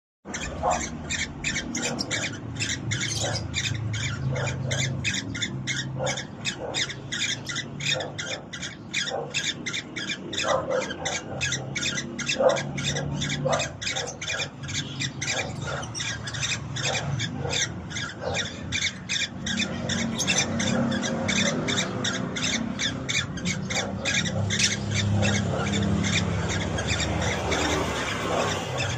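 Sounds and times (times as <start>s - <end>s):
cockatiel chirping: 0.3s - 28.9s.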